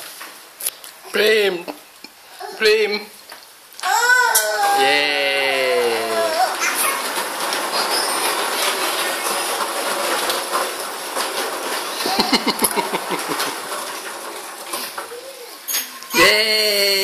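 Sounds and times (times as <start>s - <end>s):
plastic wheels rolling on tile: 3.2s - 17.0s.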